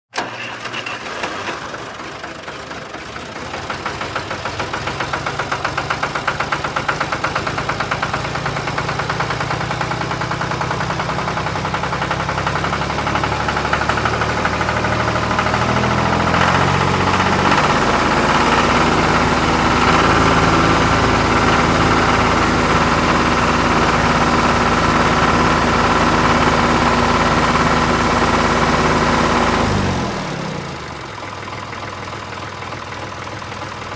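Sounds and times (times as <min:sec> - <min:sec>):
vehicle engine throbbing: 0:03.4 - 0:31.3.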